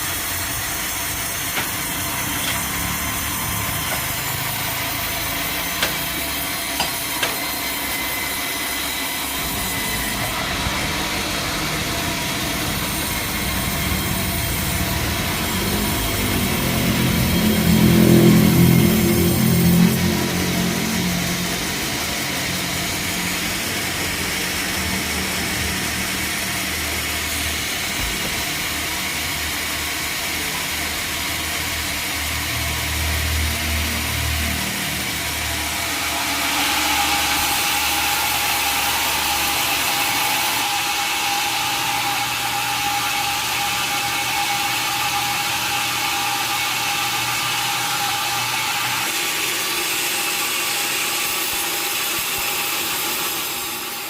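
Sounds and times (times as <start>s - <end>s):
high machine whine: 0.0s - 54.0s
sawmill motor hum: 0.0s - 54.0s.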